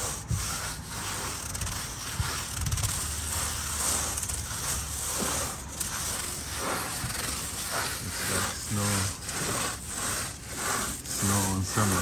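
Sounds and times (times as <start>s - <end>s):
styrofoam board being scraped: 0.0s - 12.0s.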